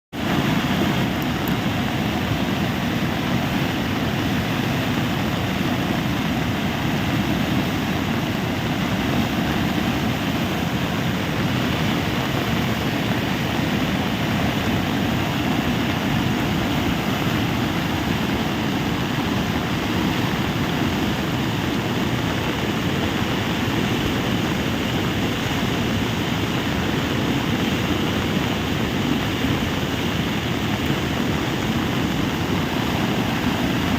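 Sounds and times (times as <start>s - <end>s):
floodwater rushing: 0.2s - 33.9s.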